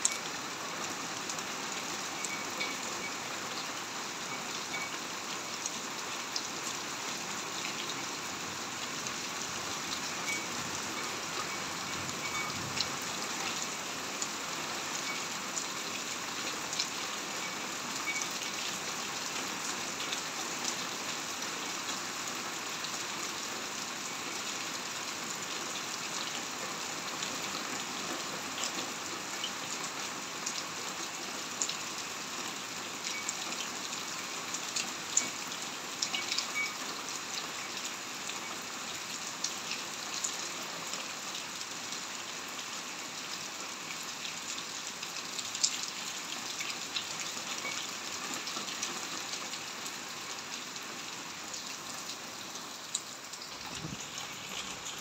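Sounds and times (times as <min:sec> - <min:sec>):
heavy rain on concrete: 0:00.0 - 0:55.0
raindrops ticking close by: 0:00.0 - 0:55.0.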